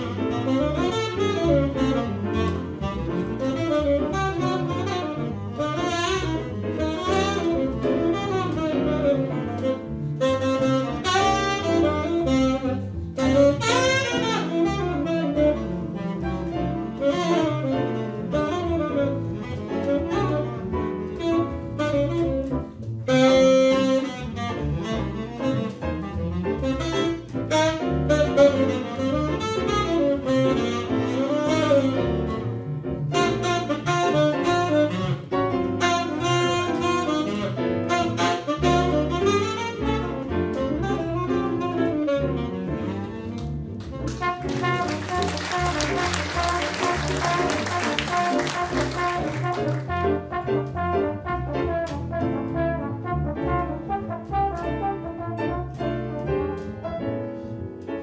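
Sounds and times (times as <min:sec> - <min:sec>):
double bass: 0:00.0 - 0:58.0
piano: 0:00.0 - 0:58.0
tenor saxophone jazz solo: 0:00.0 - 0:58.0.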